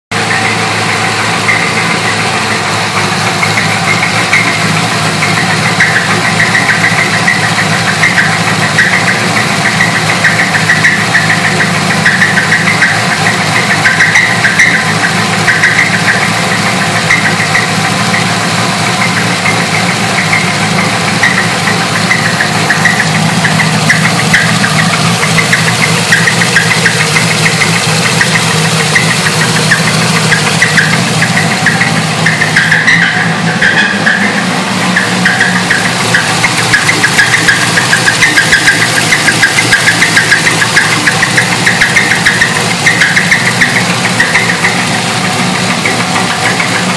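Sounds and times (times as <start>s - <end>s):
car engine running with knock: 0.0s - 46.9s.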